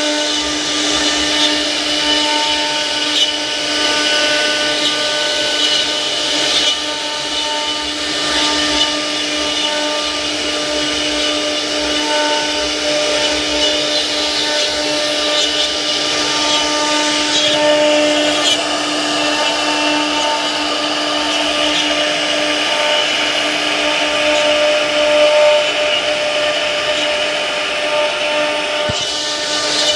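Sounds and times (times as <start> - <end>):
router spindle whine: 0.0 - 29.9.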